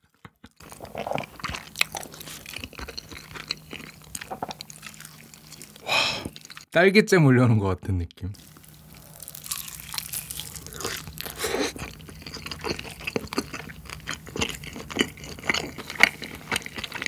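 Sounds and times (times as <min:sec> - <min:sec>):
chewing crunchy fried chicken: 0:00.0 - 0:06.7, 0:08.4 - 0:17.0.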